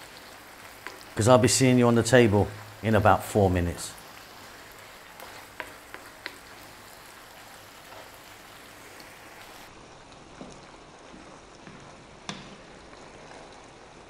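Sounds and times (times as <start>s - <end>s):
pasta sizzling in a frying pan: 0.0s - 14.0s.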